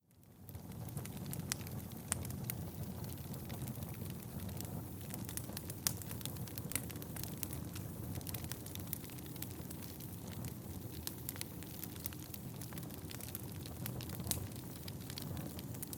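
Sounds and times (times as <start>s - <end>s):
low flame rumble: 0.0s - 15.9s
wood fire crackles and pops: 0.0s - 15.9s.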